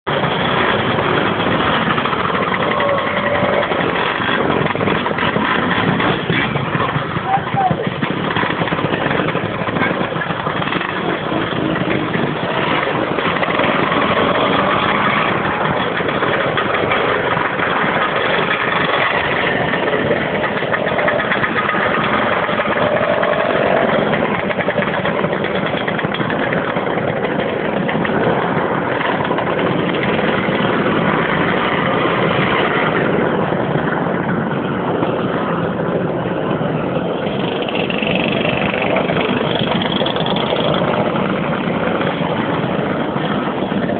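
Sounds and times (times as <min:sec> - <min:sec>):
scooter engines droning: 0:00.0 - 0:43.9
engines revving: 0:00.1 - 0:43.9.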